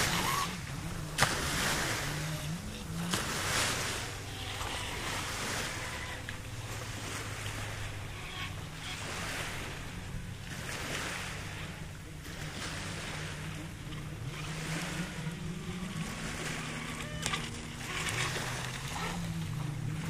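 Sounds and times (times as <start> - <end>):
small waves washing onto sand: 0.0 - 20.0
steady low hum: 0.0 - 20.0.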